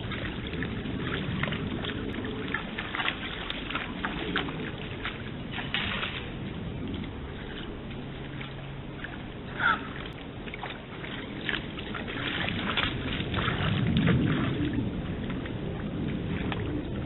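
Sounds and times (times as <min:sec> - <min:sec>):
deer wading splashing water: 0:00.0 - 0:17.0.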